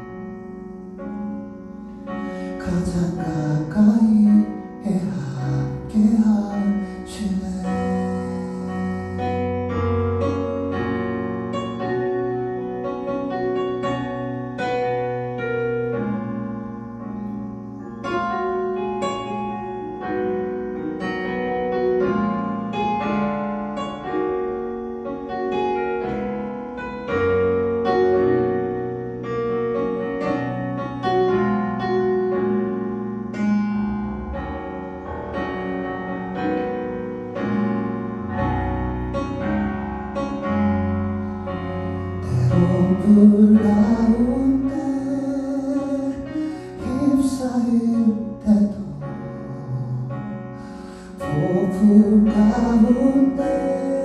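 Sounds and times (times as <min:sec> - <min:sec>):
slow piano playing: 0:00.0 - 0:54.0.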